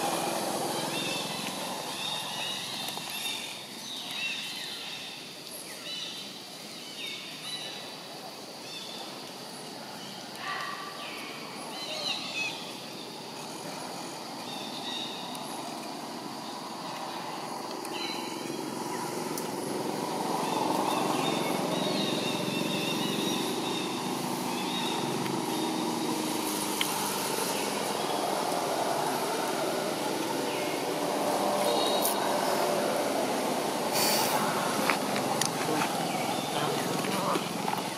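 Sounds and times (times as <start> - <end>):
traffic engine rumble: 0.0 - 5.4, 10.9 - 37.9.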